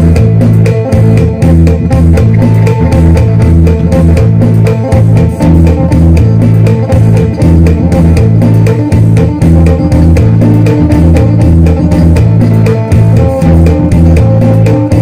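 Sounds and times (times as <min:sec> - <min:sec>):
electric guitar picked melody: 0:00.0 - 0:15.0
pulsing low guitar notes: 0:00.0 - 0:15.0.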